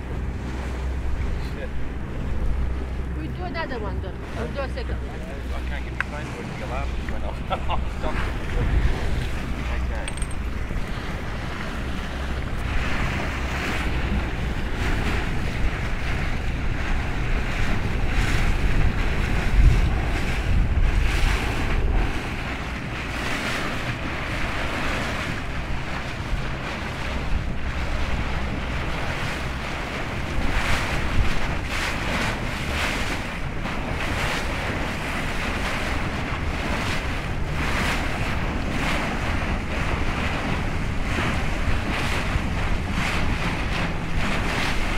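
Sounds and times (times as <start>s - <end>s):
choppy sea waves: 0.0s - 44.9s
wind buffeting microphone: 0.0s - 44.9s.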